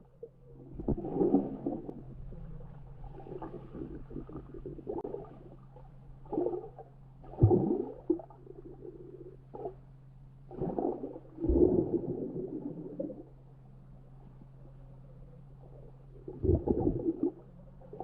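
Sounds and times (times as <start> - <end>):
steady low hum: 0.0 - 18.0
underwater water gurgling: 0.0 - 18.0.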